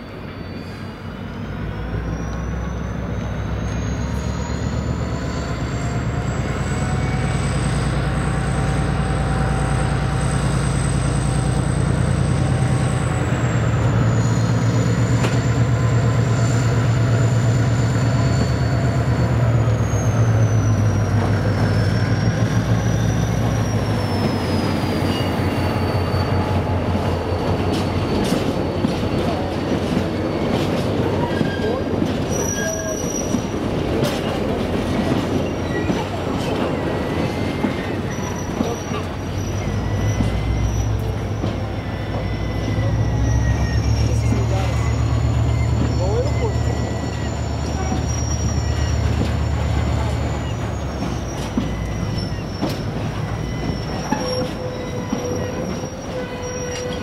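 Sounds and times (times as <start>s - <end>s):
diesel locomotive engine running: 0.0s - 57.0s
high-pitched wheel squeal: 0.0s - 57.0s.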